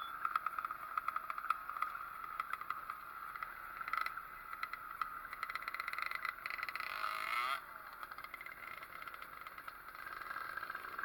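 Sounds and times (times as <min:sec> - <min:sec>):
small two-stroke engine running: 0:00.0 - 0:11.0.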